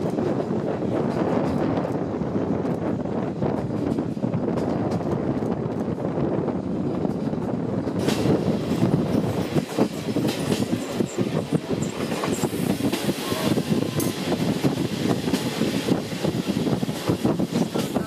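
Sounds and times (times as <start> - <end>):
rail joint clicks: 0.0 - 18.0
train wheels rumbling on rails: 0.0 - 18.0.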